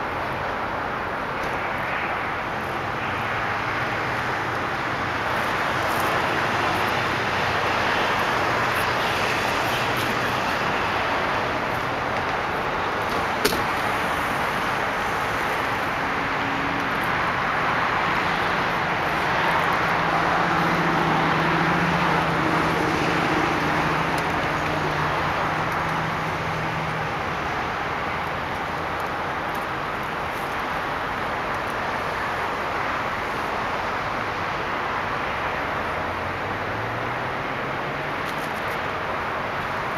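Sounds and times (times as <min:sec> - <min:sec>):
road traffic noise: 0:00.0 - 0:39.9
vehicle engine hum: 0:00.0 - 0:39.9.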